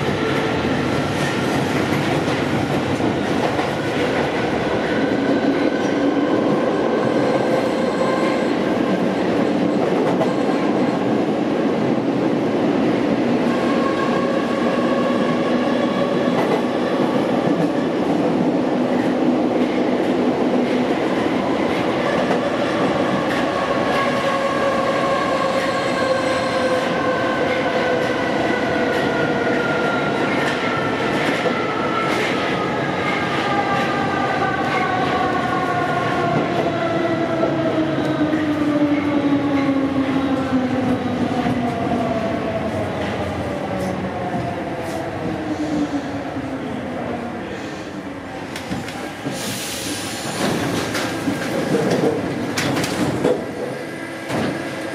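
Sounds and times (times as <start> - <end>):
metro train rolling roar: 0.0 - 54.9.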